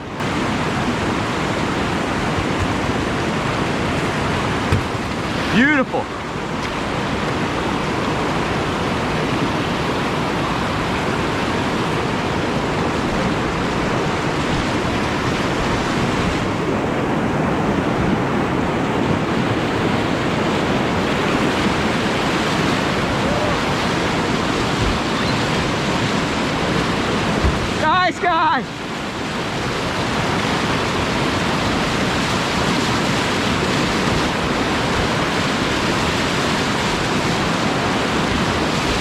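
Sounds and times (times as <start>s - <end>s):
whitewater rushing through rapid: 0.0s - 39.0s.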